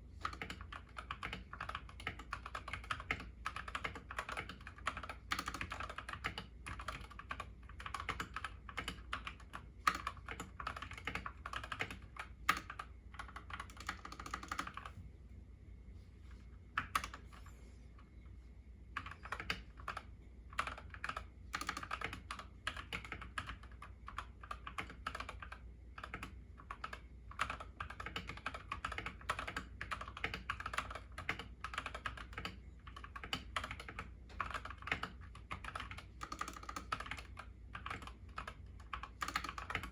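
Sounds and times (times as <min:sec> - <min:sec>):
fast typing on mechanical keyboard: 0:00.2 - 0:14.9, 0:16.8 - 0:17.3, 0:19.0 - 0:39.9.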